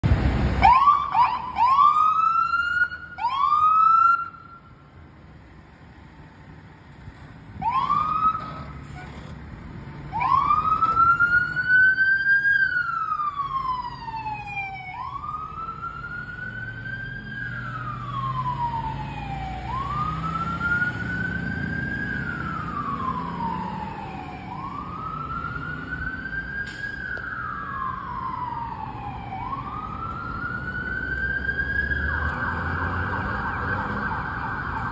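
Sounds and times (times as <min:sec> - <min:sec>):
fire engine siren: 0:00.0 - 0:04.9, 0:07.4 - 0:09.3, 0:10.0 - 0:34.9.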